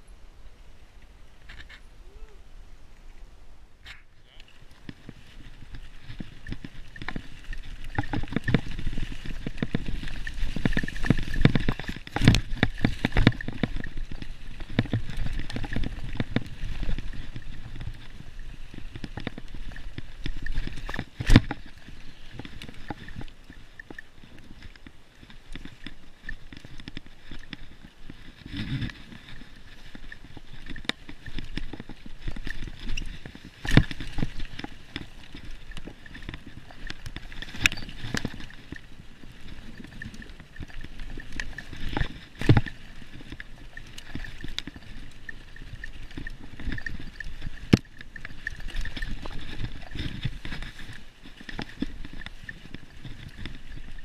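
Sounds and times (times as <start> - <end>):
bike rattling and clicking: 3.9 - 54.0
bike tyres rushing on dirt trail: 4.6 - 54.0.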